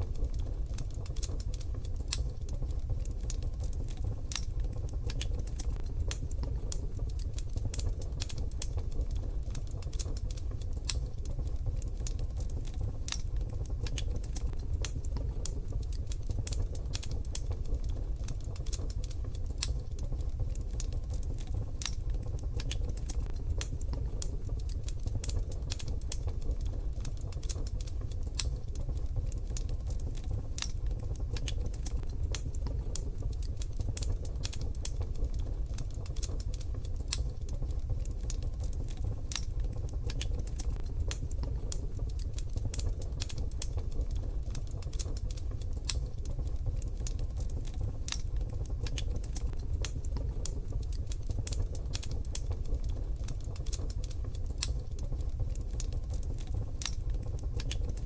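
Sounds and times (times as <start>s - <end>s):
low rumble of fire: 0.0s - 58.0s
wood fire crackling: 0.0s - 58.0s.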